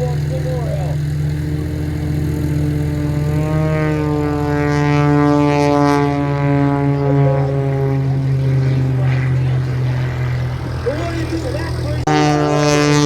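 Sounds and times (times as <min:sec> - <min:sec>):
propeller aircraft engine: 0:00.0 - 0:13.0
steady low hum: 0:00.0 - 0:13.0.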